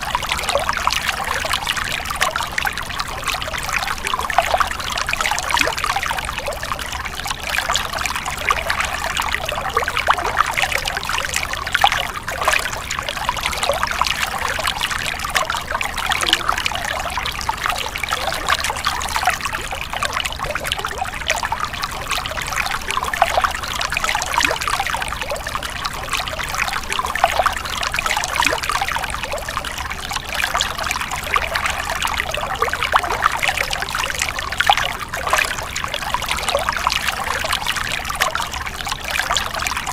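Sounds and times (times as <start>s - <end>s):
stream trickling and bubbling: 0.0s - 39.9s.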